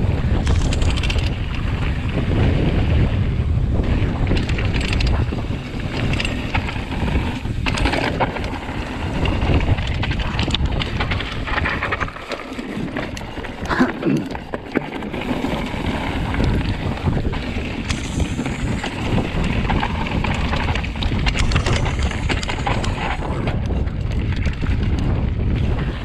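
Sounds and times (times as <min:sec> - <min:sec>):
bike rattling over rocks: 0:00.0 - 0:26.0
wind buffeting microphone: 0:00.0 - 0:26.0.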